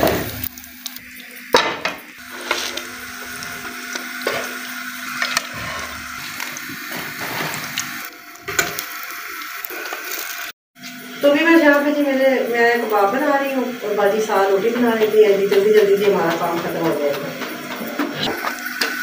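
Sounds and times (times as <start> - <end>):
kababs sizzling in frying pan: 0.0 - 10.5, 11.2 - 19.0.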